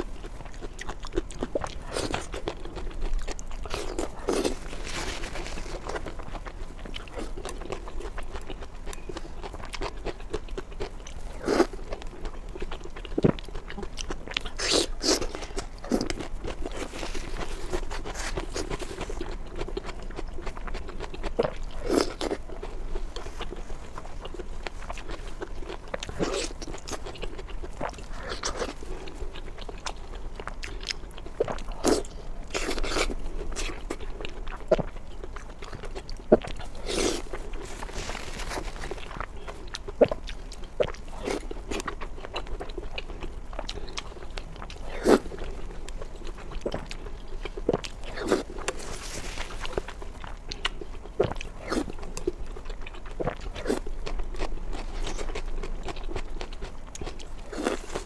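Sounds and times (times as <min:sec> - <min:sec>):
close-miked eating and crunching: 0:00.0 - 0:58.0
faint steady hum: 0:00.0 - 0:58.0.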